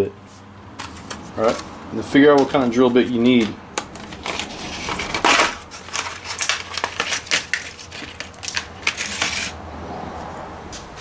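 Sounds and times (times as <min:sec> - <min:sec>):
packaging clicks and rattles: 0:00.8 - 0:09.6.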